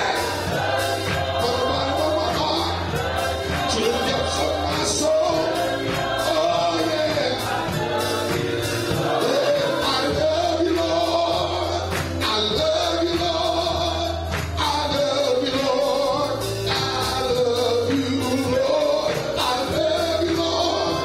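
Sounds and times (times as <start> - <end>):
band accompaniment: 0.0 - 21.0
choir singing gospel: 0.0 - 21.0.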